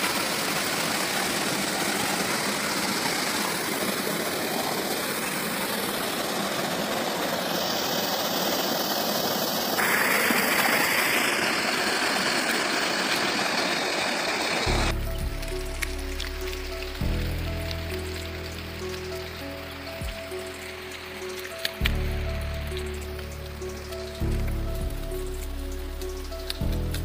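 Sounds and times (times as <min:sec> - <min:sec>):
river rushing over rocks: 0:00.0 - 0:26.7.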